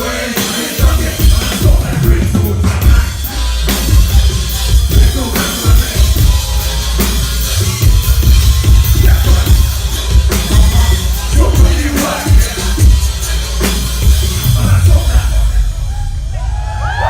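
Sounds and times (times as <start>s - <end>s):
electronic hip hop music: 0.0s - 17.0s
heavy pulsing bass and drums: 0.0s - 17.0s.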